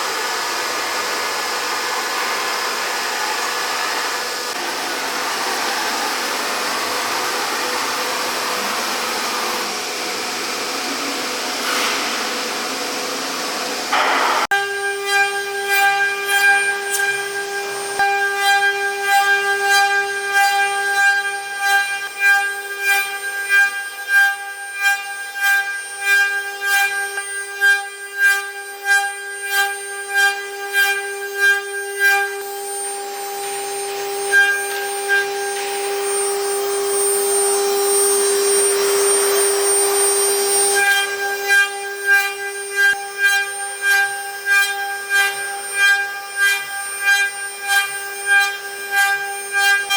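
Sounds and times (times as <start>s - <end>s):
milling machine spindle whine: 0.0s - 49.9s.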